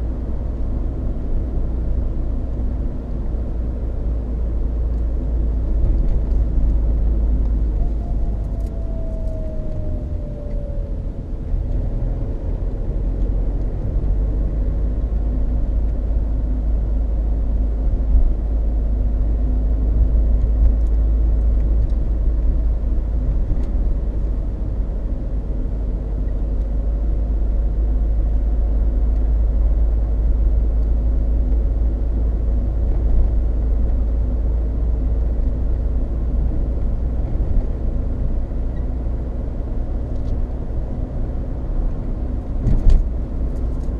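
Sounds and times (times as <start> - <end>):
deep tyre road noise rumble: 0.0 - 43.9.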